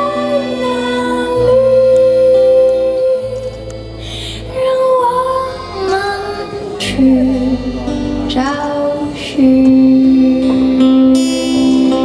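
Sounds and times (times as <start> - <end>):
accordion: 0.0 - 12.0
bass: 0.0 - 12.0
keyboards: 0.0 - 12.0
woman singing: 0.0 - 12.0.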